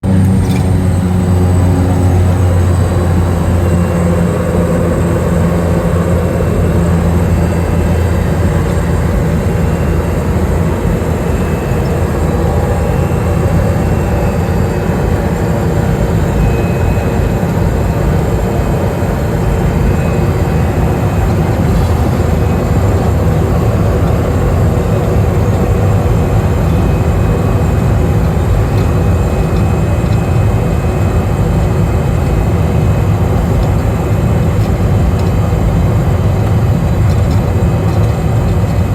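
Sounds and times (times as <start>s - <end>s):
turboprop engine and propeller: 0.0s - 38.9s.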